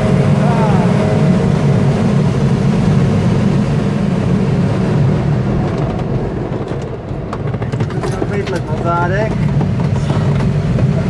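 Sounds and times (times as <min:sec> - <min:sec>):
airflow rushing: 0:00.0 - 0:11.0.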